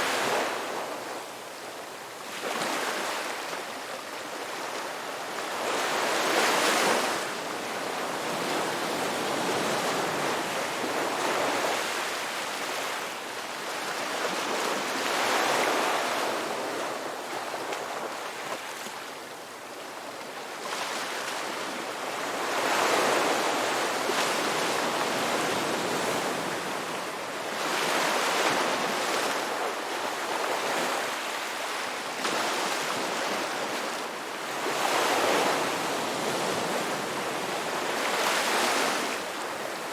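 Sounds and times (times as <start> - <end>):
ocean waves breaking on beach: 0.0 - 19.3, 19.9 - 39.9.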